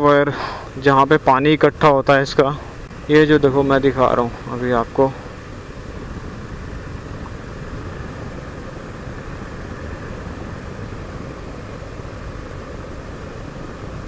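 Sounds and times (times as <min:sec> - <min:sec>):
motorcycle road noise: 0:00.0 - 0:14.0
wind rush on microphone: 0:00.0 - 0:14.0.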